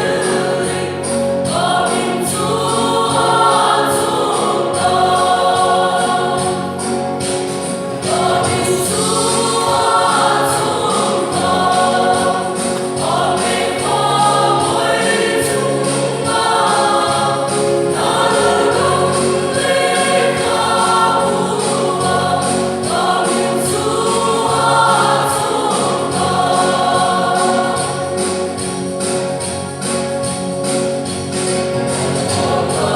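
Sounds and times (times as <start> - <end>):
choir singing a hymn: 0.0 - 29.6, 31.6 - 32.9
steady percussion beat: 0.0 - 32.9.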